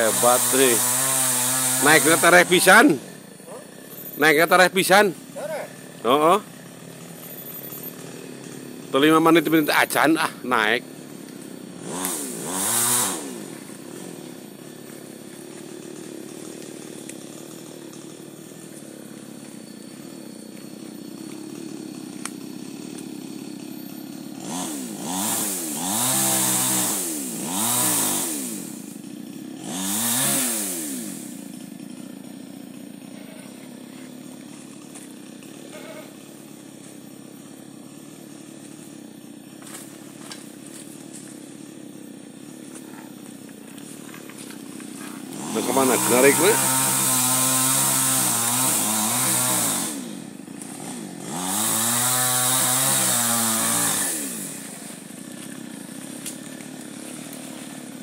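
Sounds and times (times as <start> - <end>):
chainsaw revving: 0.0 - 58.0.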